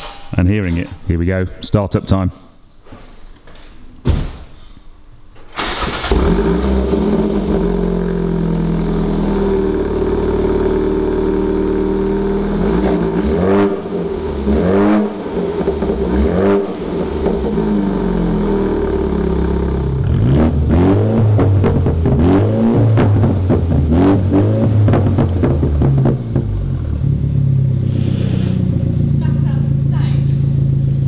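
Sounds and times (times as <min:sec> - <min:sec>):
car engine idling and revving: 0:05.8 - 0:31.0.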